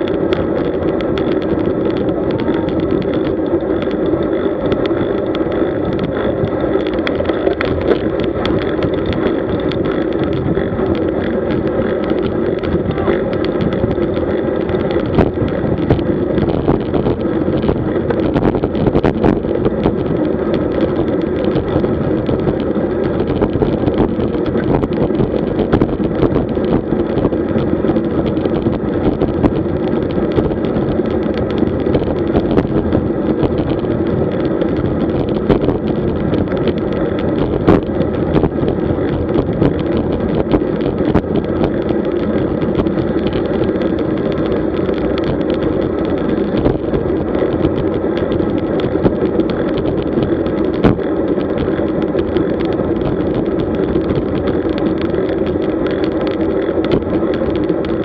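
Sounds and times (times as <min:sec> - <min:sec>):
bicycle tyre road noise: 0:00.0 - 0:58.0
small rattling clicks: 0:00.0 - 0:58.0
wind on microphone: 0:00.0 - 0:58.0.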